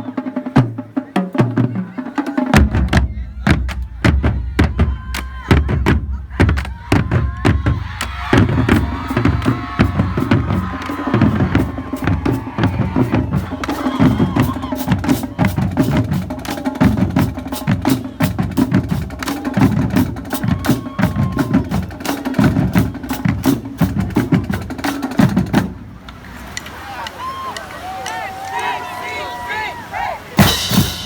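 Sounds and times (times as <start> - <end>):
marching drumline cadence: 0.0 - 31.0.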